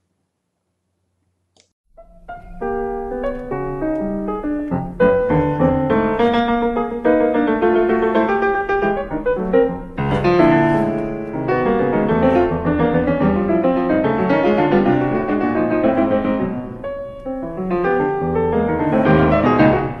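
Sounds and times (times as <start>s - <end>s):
piano music: 1.9s - 20.0s.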